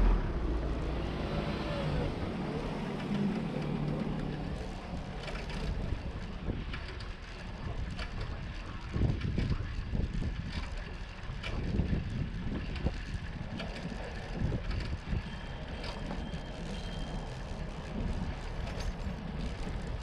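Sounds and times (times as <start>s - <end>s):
tyre and wind rumble: 0.0s - 20.0s.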